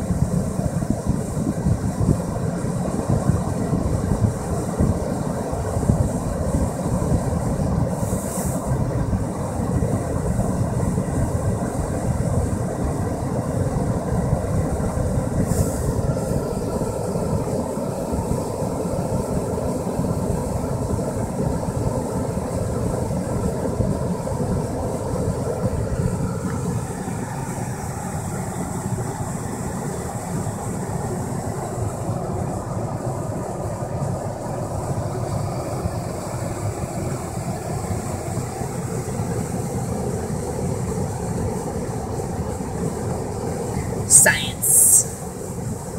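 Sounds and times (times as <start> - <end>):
car heater blower fan: 0.0 - 45.9.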